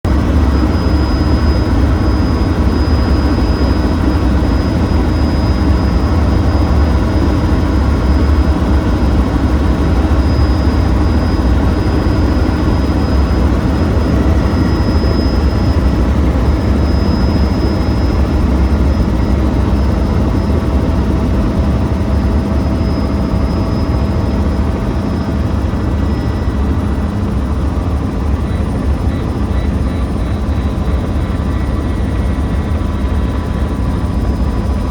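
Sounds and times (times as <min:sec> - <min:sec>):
helicopter rotor and engine: 0:00.0 - 0:34.9
thin high whine: 0:00.1 - 0:34.6.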